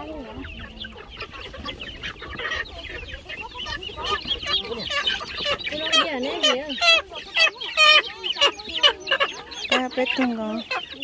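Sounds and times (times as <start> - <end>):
birds clucking and chirping: 0.0 - 11.0.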